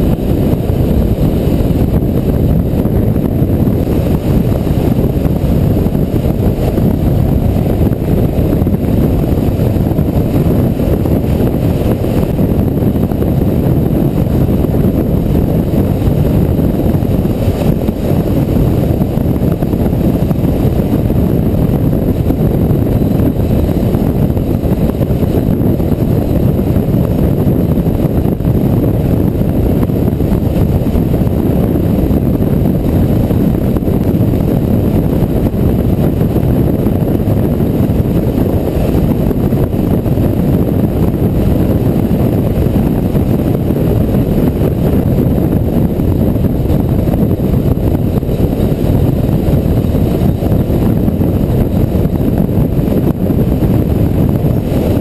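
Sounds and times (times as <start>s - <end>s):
motorcycle engine: 0.0s - 53.0s
wind rushing on microphone: 0.0s - 55.0s.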